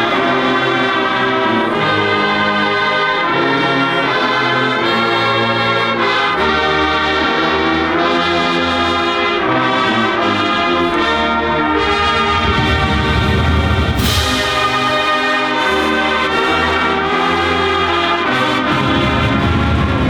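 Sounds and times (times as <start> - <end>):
deep low brass notes: 0.0 - 20.0
marching band brass chords: 0.0 - 20.0.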